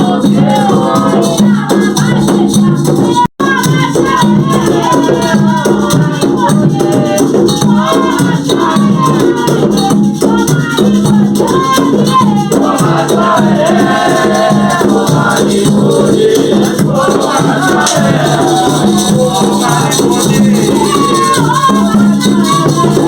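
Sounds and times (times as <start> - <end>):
shaker rattle rhythm: 0.0 - 23.0
voices singing: 0.0 - 23.0.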